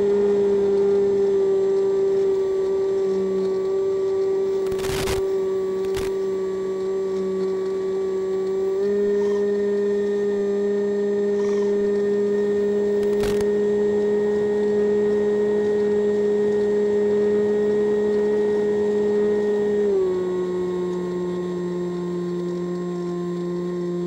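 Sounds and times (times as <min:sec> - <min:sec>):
model plane motor whine: 0:00.0 - 0:24.0.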